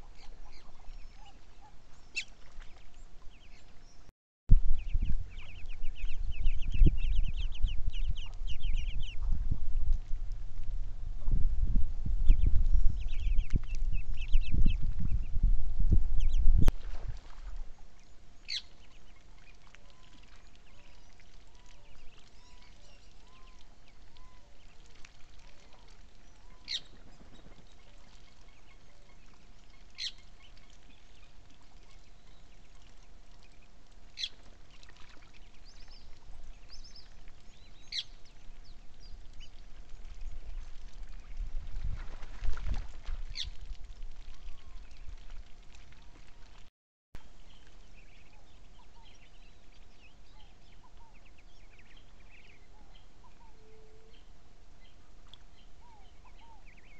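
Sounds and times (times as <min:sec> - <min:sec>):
waterbirds calling: 0:00.0 - 0:04.1, 0:04.7 - 0:10.2, 0:16.2 - 0:56.9.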